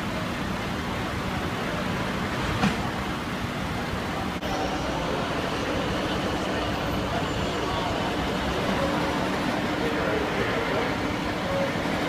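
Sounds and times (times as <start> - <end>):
diesel engine idling: 0.0 - 12.0
street noise: 0.0 - 12.0.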